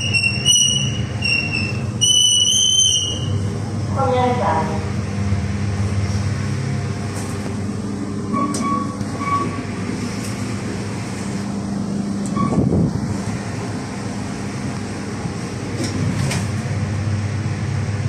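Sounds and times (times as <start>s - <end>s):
lift car humming: 0.0s - 18.0s.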